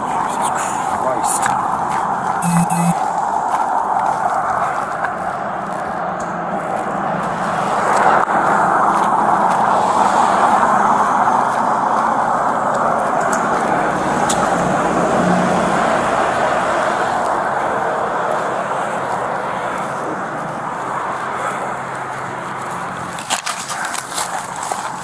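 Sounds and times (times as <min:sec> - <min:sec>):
highway traffic rushing: 0:00.0 - 0:25.0
vehicle passing by: 0:00.0 - 0:25.0.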